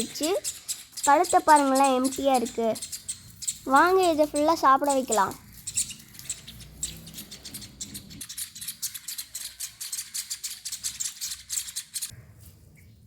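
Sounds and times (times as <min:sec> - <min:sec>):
bird chicks chittering: 0:00.0 - 0:12.1.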